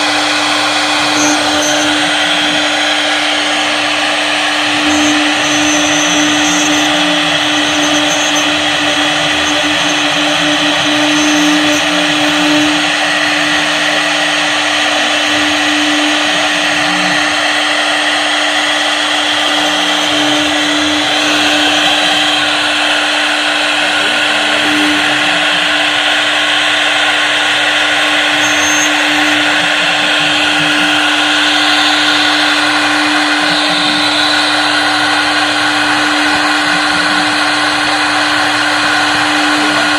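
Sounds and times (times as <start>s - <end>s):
router bit cutting wood: 0.0s - 39.9s
router spindle whine: 0.0s - 39.9s.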